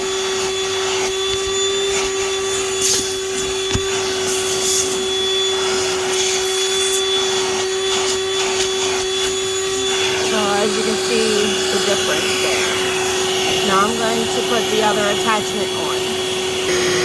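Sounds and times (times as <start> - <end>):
wet dry vacuum running: 0.0 - 17.0.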